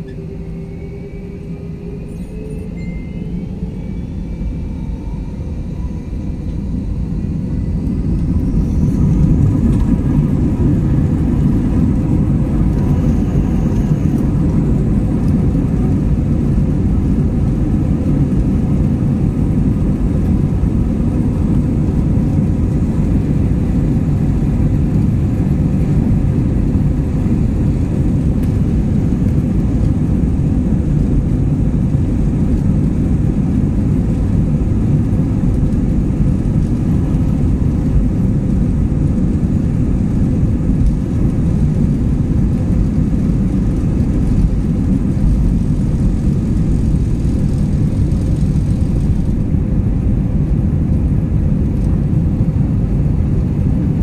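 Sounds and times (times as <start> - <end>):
jet engines whining and roaring: 0.0 - 54.0.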